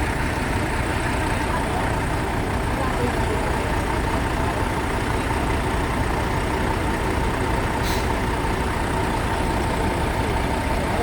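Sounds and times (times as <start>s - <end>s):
heavy vehicle engines running: 0.0s - 11.0s.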